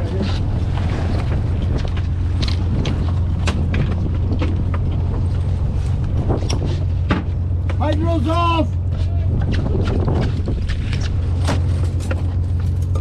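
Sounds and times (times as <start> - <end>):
boat engine and hauler droning: 0.0 - 13.0.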